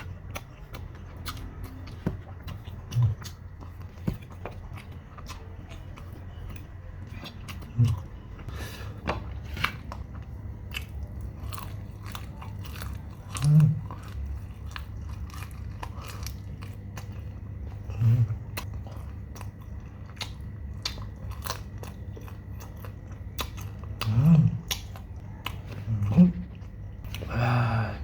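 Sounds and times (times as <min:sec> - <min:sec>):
crunchy chewing of fried chicken: 0:00.0 - 0:28.0.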